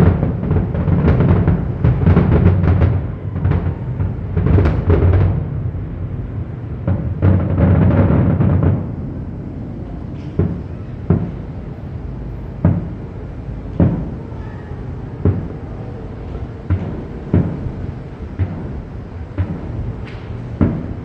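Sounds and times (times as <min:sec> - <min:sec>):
fireworks booms: 0:00.0 - 0:21.0.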